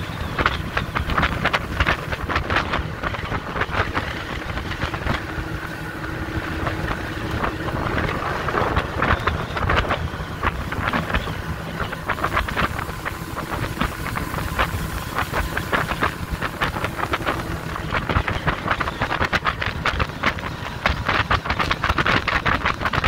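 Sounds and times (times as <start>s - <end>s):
boat engine rumble: 0.0s - 23.0s
water slapping against hull: 0.0s - 23.0s
wind rushing over microphone: 0.0s - 23.0s.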